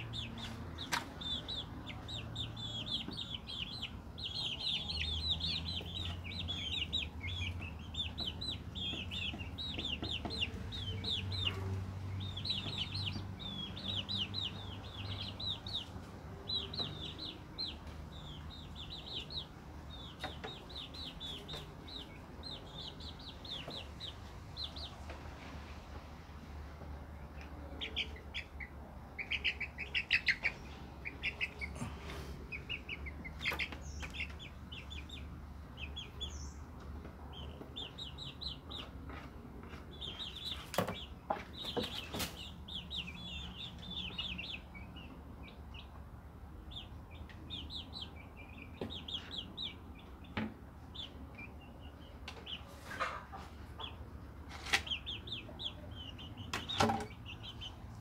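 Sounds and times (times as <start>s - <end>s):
chicks peeping and trilling: 0.0s - 58.0s.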